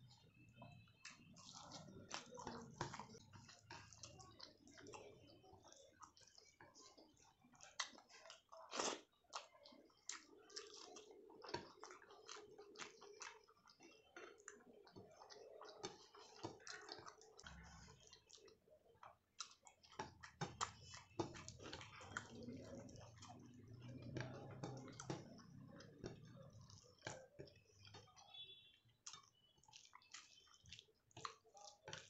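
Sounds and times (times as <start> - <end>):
chewing and wet mouth sounds: 0.0 - 32.0.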